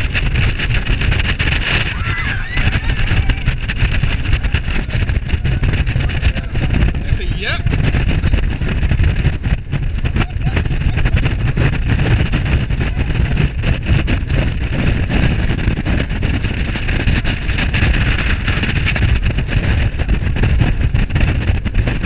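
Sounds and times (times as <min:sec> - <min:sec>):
speedboat engine and spray: 0:00.0 - 0:22.0
wind buffeting microphone: 0:00.0 - 0:22.0.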